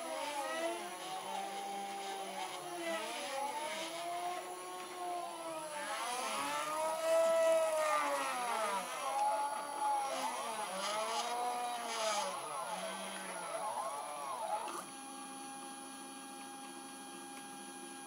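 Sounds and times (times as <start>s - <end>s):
stepper motors whining: 0.0s - 14.9s.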